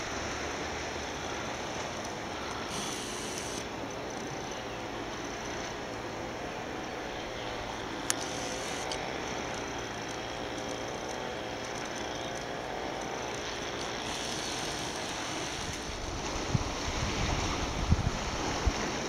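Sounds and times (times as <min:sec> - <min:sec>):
boat motor drone: 0:00.0 - 0:19.0.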